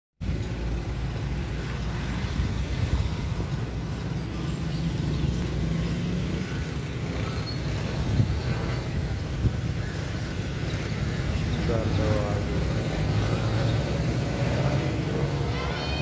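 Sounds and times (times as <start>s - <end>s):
road traffic rumble: 0.2s - 16.0s.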